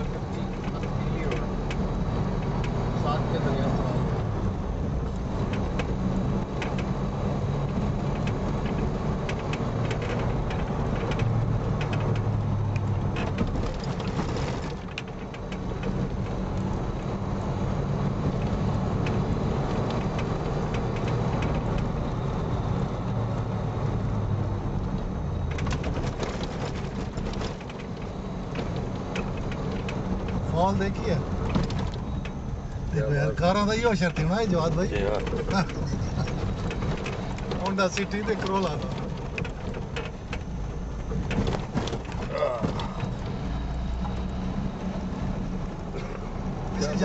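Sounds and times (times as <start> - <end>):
car body clicks and rattles: 0.0 - 2.9, 4.4 - 22.2, 24.8 - 47.0
car engine and tyres droning: 0.0 - 47.0.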